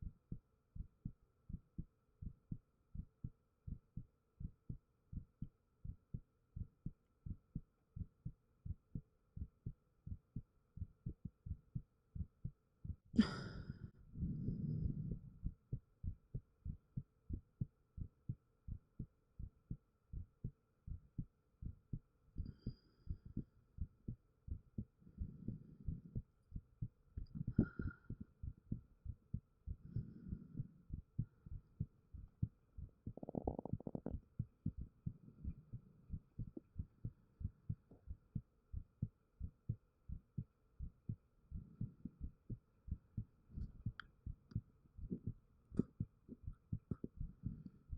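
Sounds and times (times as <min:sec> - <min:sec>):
heartbeat thumps: 0:00.0 - 0:13.4, 0:14.0 - 0:47.8.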